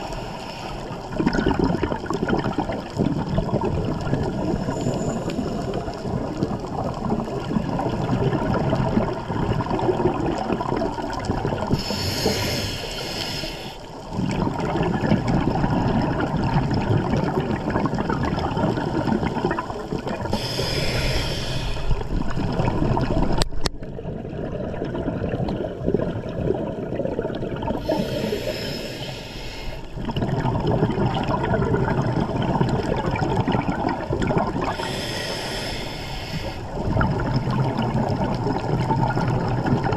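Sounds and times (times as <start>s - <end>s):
hissing rush of exhaled bubbles: 0.0s - 39.9s
low rumble of water: 0.0s - 39.9s.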